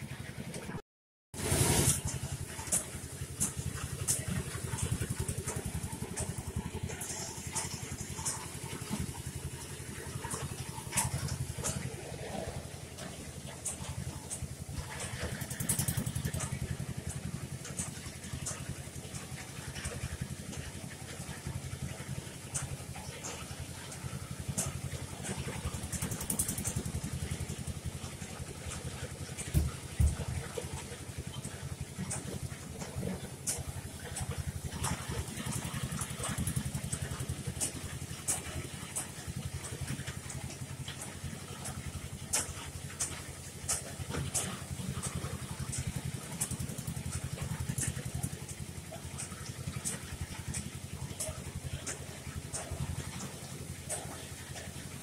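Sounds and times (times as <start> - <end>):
engine idling: 1.4 - 55.0.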